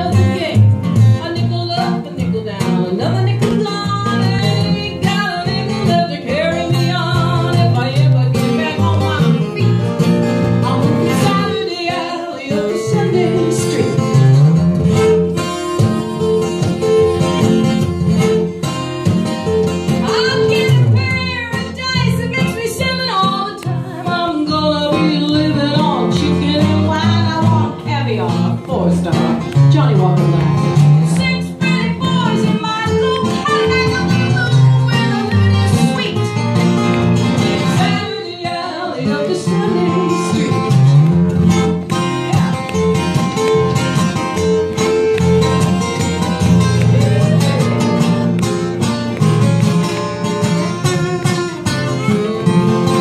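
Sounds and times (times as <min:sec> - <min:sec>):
woman singing: 0:00.0 - 0:16.6, 0:18.2 - 0:30.3, 0:31.0 - 0:36.8, 0:37.4 - 0:48.2
acoustic guitars strumming: 0:00.0 - 0:53.0.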